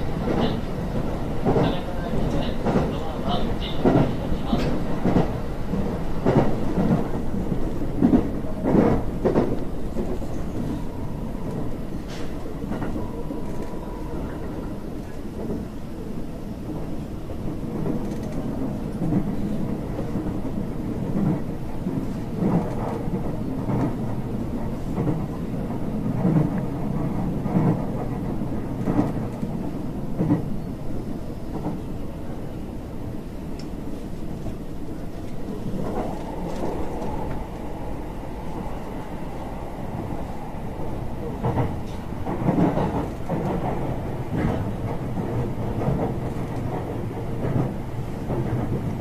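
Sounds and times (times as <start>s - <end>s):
train rumble inside carriage: 0.0s - 49.0s.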